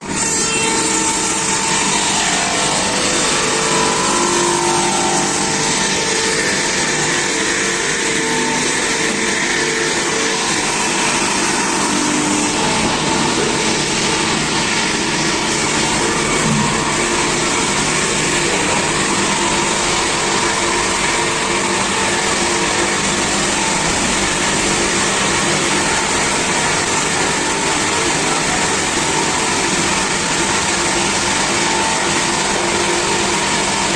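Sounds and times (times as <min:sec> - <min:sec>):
log-sawing machine running: 0:00.0 - 0:33.9.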